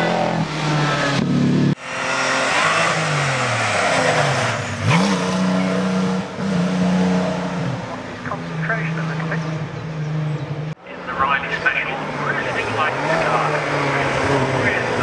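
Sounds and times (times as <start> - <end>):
racing car engines at full throttle: 0.0 - 15.0.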